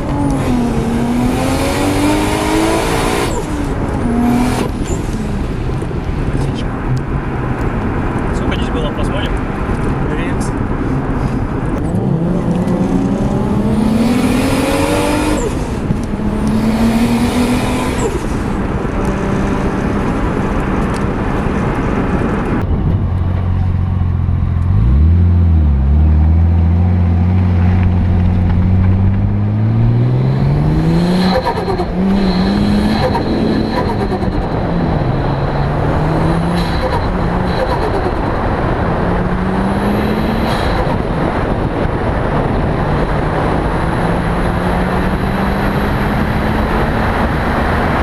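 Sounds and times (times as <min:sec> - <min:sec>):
deep engine climbing in pitch: 0:00.0 - 0:07.6, 0:11.6 - 0:48.0
turbocharged car engines accelerating: 0:00.0 - 0:48.0.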